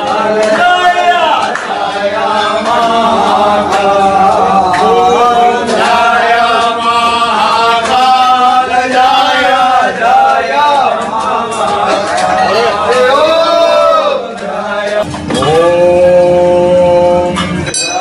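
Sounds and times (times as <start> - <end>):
men chanting a hymn: 0.0 - 18.0.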